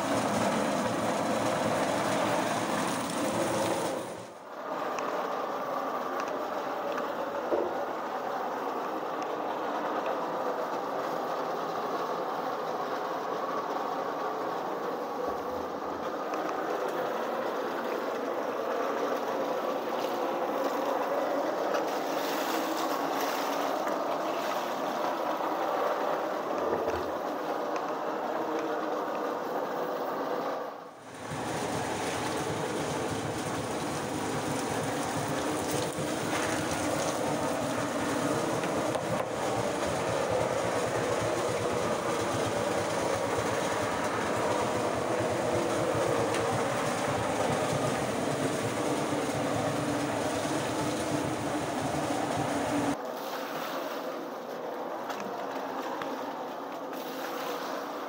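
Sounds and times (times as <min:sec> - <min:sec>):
machine running: 0:00.0 - 0:58.0.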